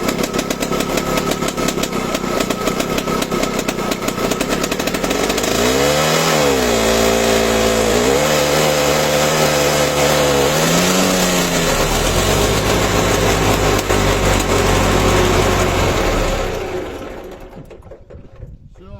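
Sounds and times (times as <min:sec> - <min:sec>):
engine revving: 0:00.0 - 0:17.8.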